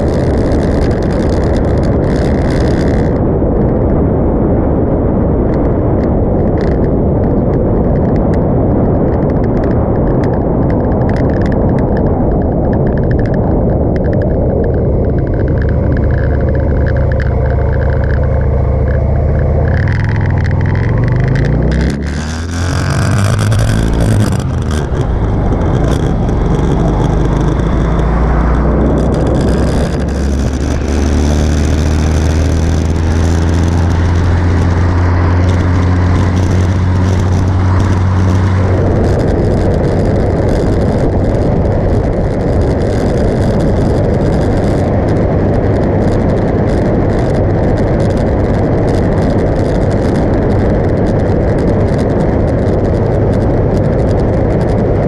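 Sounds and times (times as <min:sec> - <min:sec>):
motorcycle engine accelerating: 0:00.0 - 0:03.9, 0:09.3 - 0:55.0
wind rush on microphone: 0:00.0 - 0:55.0.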